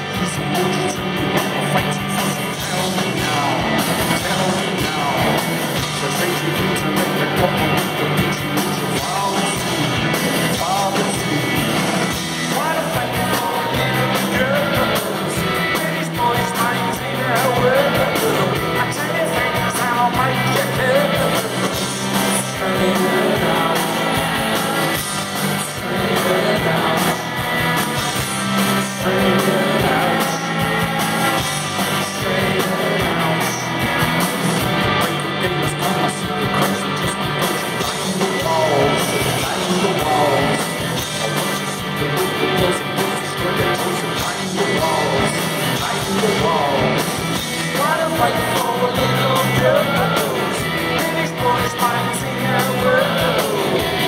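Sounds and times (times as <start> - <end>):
bass guitar: 0.0 - 54.0
drums: 0.0 - 54.0
electric guitar: 0.0 - 54.0
person singing: 0.0 - 54.0.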